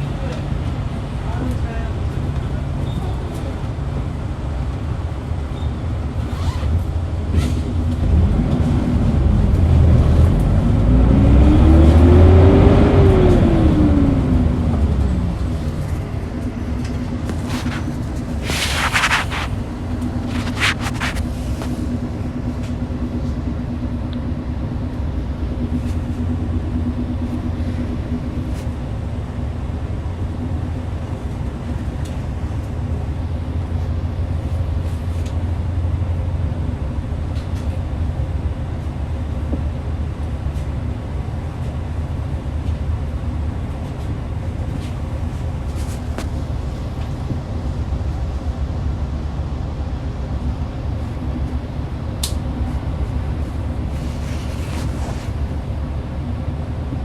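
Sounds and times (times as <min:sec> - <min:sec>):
bus engine drone: 0:00.0 - 0:57.0
road rumble: 0:00.0 - 0:57.0.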